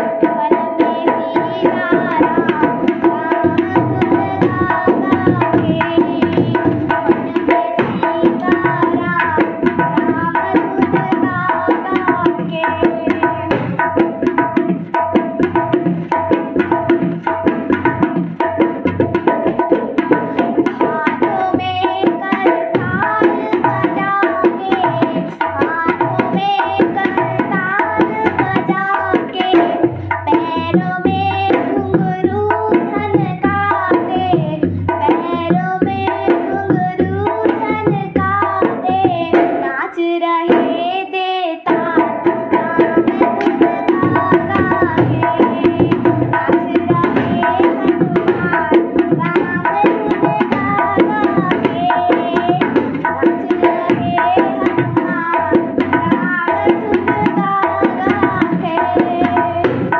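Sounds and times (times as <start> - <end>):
girls singing devotional song: 0.0 - 59.9
hand drum rhythm: 0.0 - 59.9.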